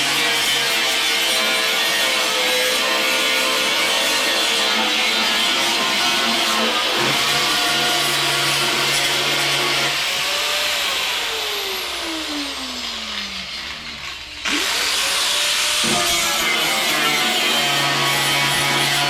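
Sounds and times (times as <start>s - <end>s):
angle grinder whining: 0.0s - 19.0s.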